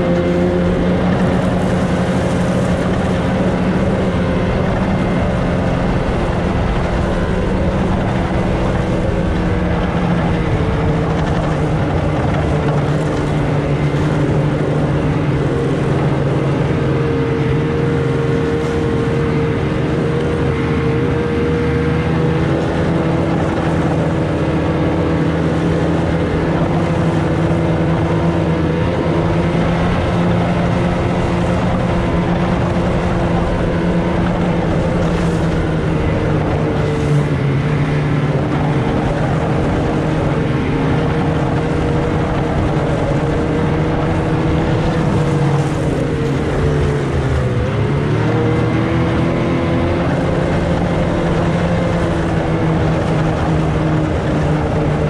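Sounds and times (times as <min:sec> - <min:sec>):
rush of track and wind: 0:00.0 - 0:55.0
snowmobile engine running: 0:00.0 - 0:55.0.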